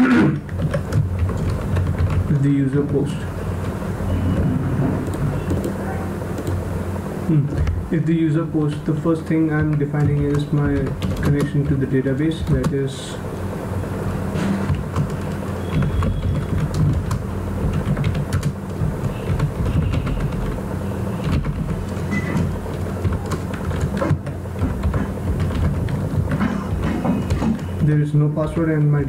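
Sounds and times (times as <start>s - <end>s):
steady low hum: 0.0s - 29.0s
keyboard keys clicking: 0.3s - 3.8s, 4.4s - 6.6s, 9.5s - 12.8s, 14.6s - 29.0s.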